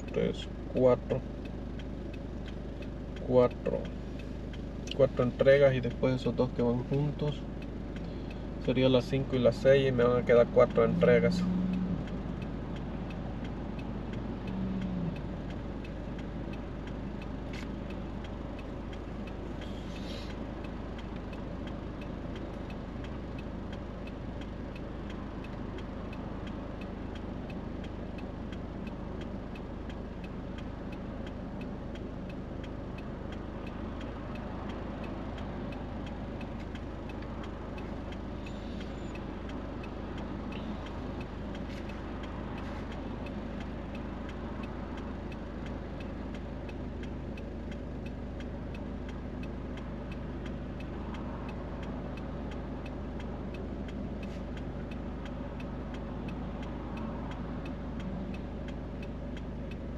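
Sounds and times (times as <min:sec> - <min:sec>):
low car interior hum: 0:00.0 - 0:59.9
turn signal ticking: 0:00.0 - 0:59.9.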